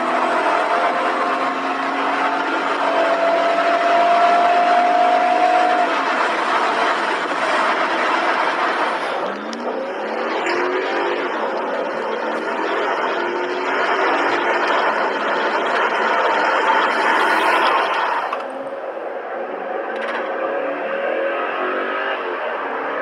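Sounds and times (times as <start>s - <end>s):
car engine at full throttle: 0.0s - 23.0s
vee-eight engine accelerating hard: 0.0s - 23.0s
wind and road noise: 0.0s - 23.0s.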